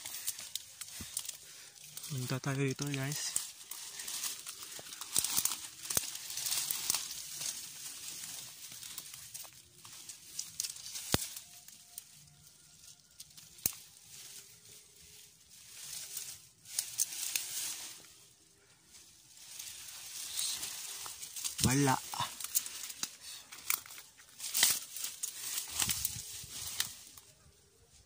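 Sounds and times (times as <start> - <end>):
light crackles: 0.0 - 27.7
twigs snapping: 0.0 - 27.7
leaves and grass rustling: 0.0 - 28.0.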